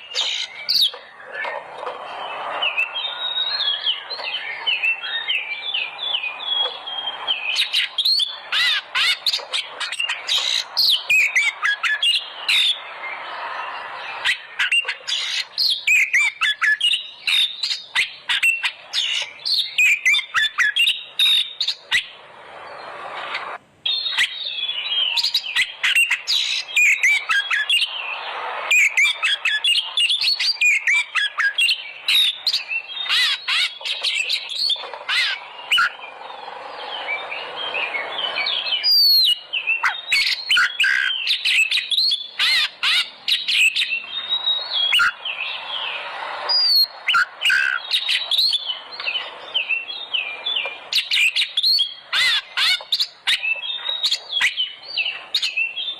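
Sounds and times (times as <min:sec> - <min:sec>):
bird singing whistles and chirps: 0:00.0 - 0:55.9.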